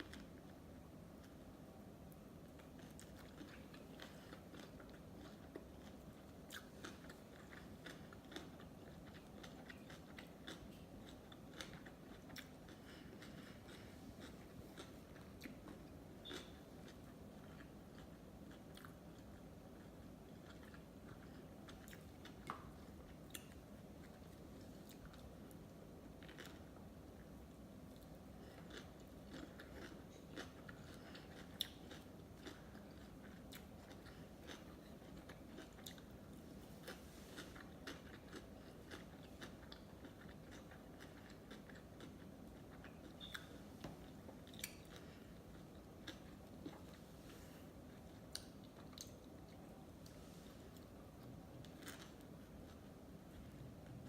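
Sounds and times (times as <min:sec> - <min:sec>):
chewing with wet mouth clicks: 0:02.4 - 0:26.7, 0:27.9 - 0:36.2, 0:36.8 - 0:47.0, 0:47.9 - 0:49.7.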